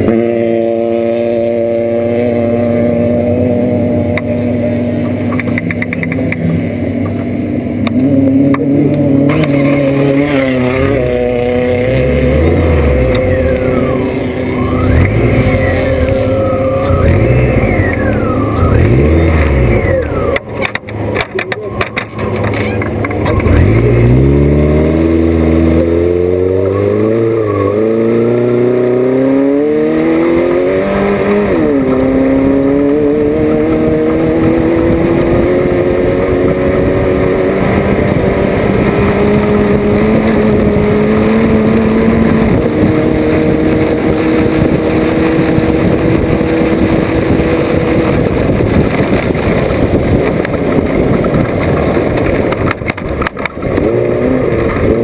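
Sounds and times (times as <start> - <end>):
race vehicle engine revving: 0.0 - 55.0.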